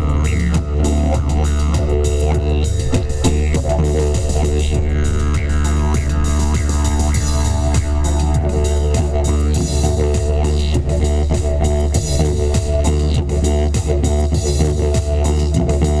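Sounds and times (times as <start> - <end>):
didgeridoo drone: 0.0 - 16.0.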